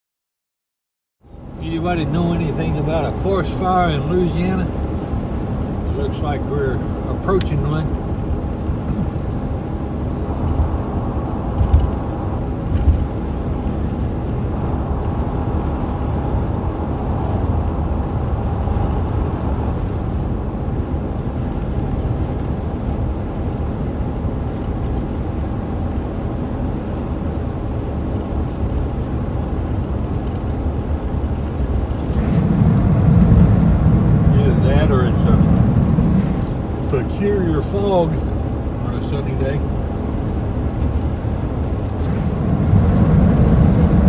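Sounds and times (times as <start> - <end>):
van engine and road noise: 1.2 - 44.0.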